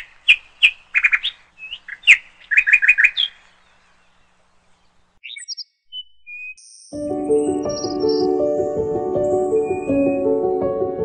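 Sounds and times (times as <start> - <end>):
bird chirping: 0.0 - 8.6, 9.2 - 10.4.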